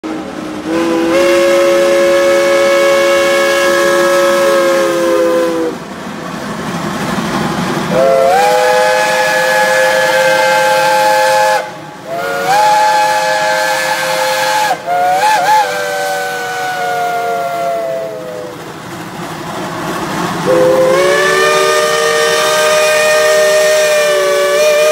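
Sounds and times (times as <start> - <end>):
rushing steam: 0.0 - 24.9
steam locomotive whistle blasts: 0.6 - 5.8, 7.9 - 18.6, 20.4 - 24.9.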